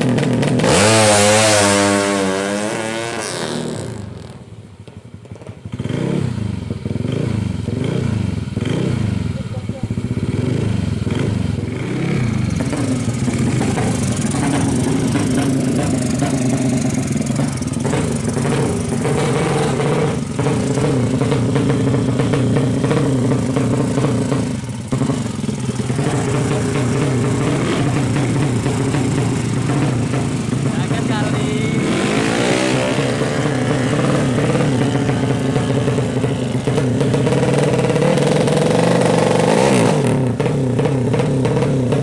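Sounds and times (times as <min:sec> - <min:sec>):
motorbike engine revving loud: 0:00.0 - 0:04.5, 0:05.7 - 0:42.0.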